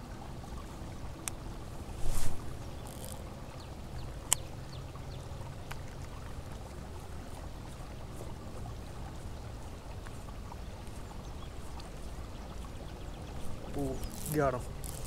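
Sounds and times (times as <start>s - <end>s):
river water around kayak: 0.0s - 15.0s.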